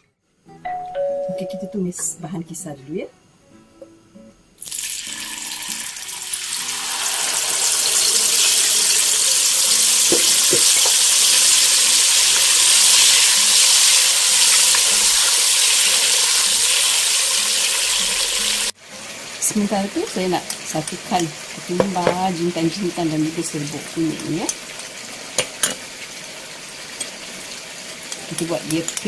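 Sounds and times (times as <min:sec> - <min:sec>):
paste sizzling in hot oil: 0:04.6 - 0:29.0.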